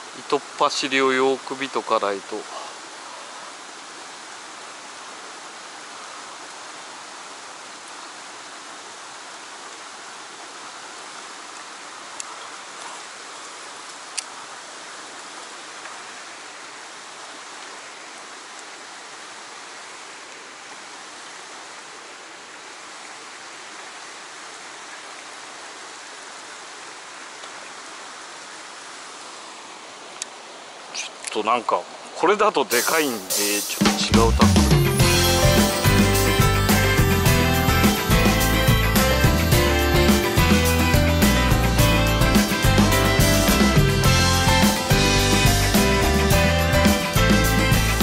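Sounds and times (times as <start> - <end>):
stream water rushing: 0.0 - 48.0.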